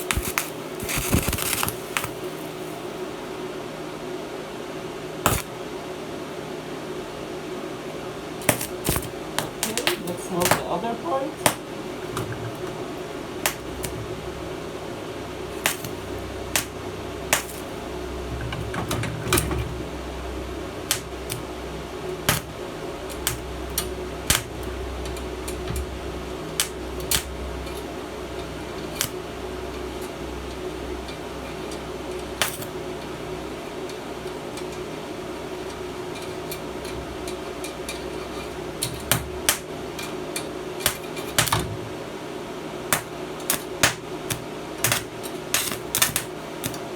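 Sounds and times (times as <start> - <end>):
welding machine humming: 0.0 - 3.6, 5.0 - 5.8, 7.9 - 46.9.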